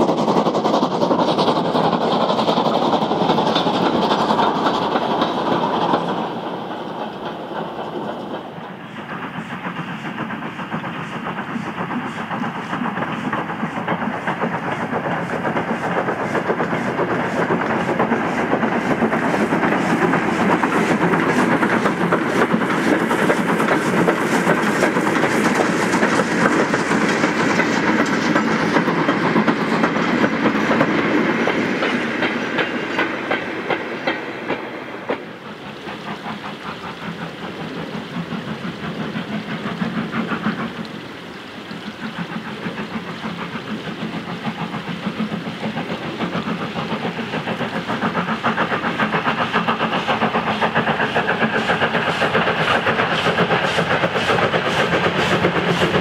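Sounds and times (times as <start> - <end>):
steam locomotive exhaust beats: 0.0 - 56.0
wheels clattering on rails: 0.0 - 56.0.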